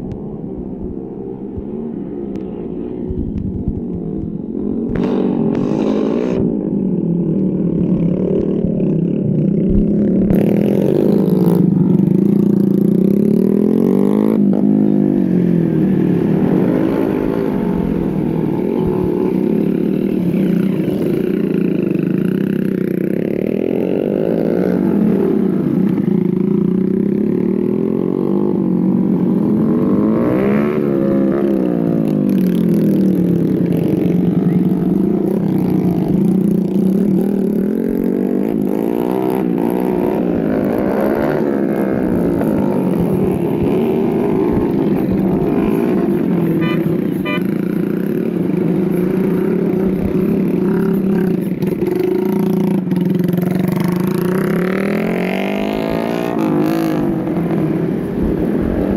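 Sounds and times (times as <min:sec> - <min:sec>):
motorcycle engine revving: 0:03.1 - 0:58.9.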